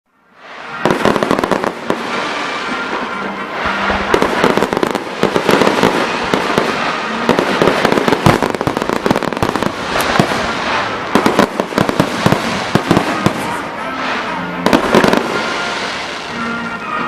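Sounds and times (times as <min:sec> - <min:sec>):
fireworks crackling: 0:00.2 - 0:17.0
firework bangs and cracks: 0:00.4 - 0:16.5.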